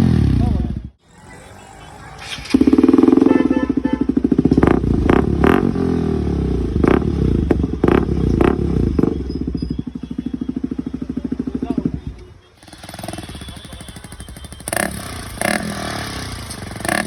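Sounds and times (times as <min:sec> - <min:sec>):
motorcycle engine pulsing: 0:00.0 - 0:01.0, 0:01.8 - 0:17.0
sharp exhaust cracks: 0:02.2 - 0:17.0.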